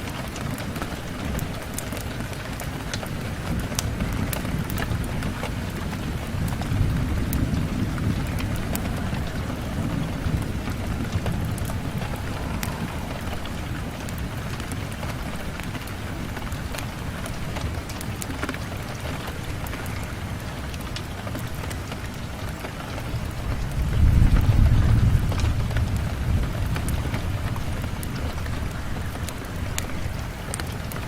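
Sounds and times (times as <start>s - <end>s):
low rumble of thunder: 0.0s - 31.0s
steady rain: 0.0s - 31.0s.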